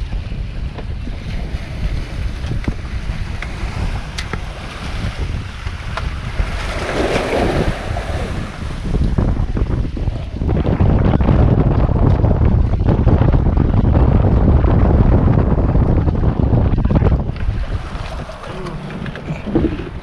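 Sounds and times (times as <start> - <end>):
rush of water: 0.0 - 20.0
waves washing around posts: 0.0 - 20.0
wind buffeting microphone: 0.0 - 20.0.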